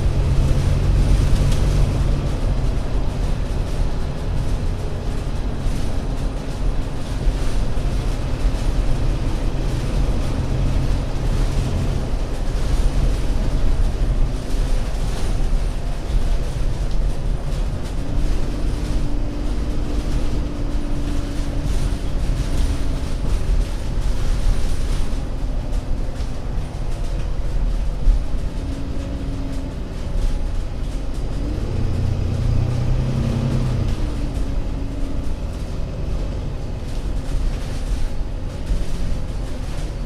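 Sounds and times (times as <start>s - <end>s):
bus engine rumble: 0.0s - 40.0s
drivetrain whine: 0.0s - 40.0s.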